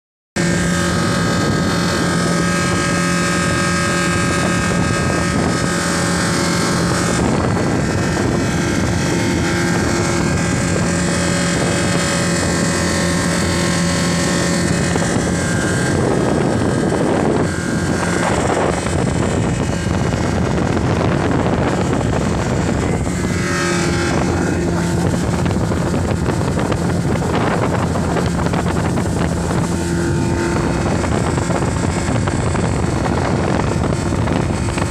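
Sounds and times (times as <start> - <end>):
jet ski engine running: 0.4 - 34.9
rushing water: 0.4 - 34.9
wind on microphone: 0.4 - 34.9.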